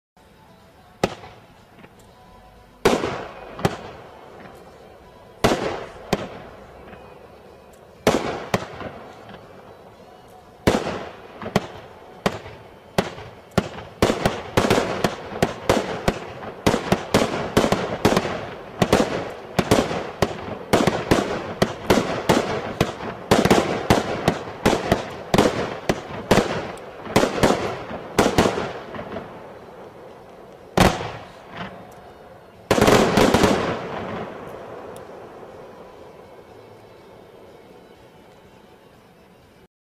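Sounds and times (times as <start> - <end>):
firework bangs: 1.0 - 2.0, 2.8 - 4.8, 5.4 - 7.1, 8.0 - 9.8, 10.6 - 36.6.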